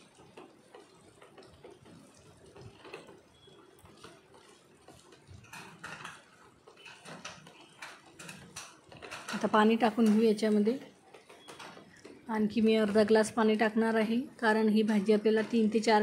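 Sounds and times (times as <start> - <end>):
masala simmering: 0.0 - 16.0
wet clicks and squelches of stirring: 0.0 - 16.0.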